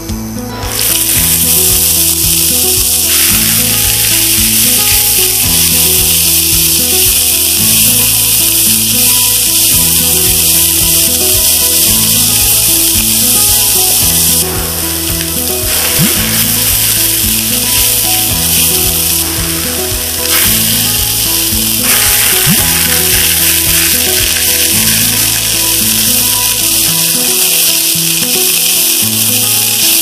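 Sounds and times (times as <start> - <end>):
background music: 0.0 - 30.0
onions sizzling in oil: 0.6 - 30.0.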